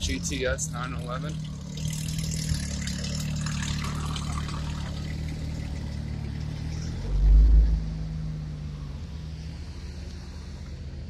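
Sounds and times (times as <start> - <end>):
car engine rumbling past: 0.0 - 11.0.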